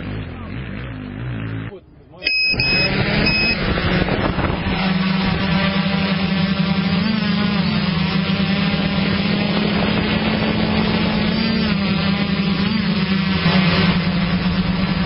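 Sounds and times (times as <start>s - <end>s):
motorcycle engine revving high: 0.0s - 15.0s.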